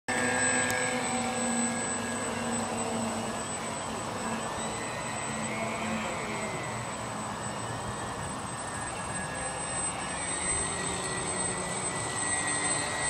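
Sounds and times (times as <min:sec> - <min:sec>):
electric motor whining: 0:00.1 - 0:13.0.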